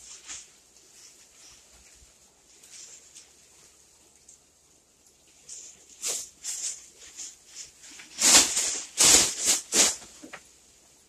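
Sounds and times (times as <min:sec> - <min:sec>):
plastic bag rustling: 0:00.0 - 0:03.9, 0:05.3 - 0:10.5.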